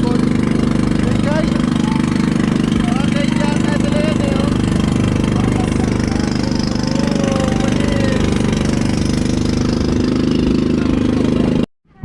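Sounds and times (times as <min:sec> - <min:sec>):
boat engine pulsing drone: 0:00.0 - 0:12.0.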